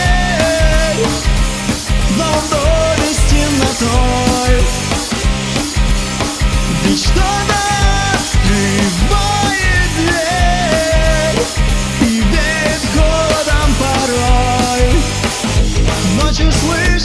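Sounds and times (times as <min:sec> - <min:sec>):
bass guitar: 0:00.0 - 0:17.0
drums: 0:00.0 - 0:17.0.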